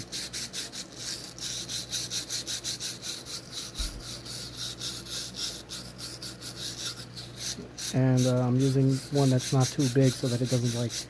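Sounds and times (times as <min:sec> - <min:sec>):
brush scrubbing pipe chamber: 0:00.0 - 0:11.0.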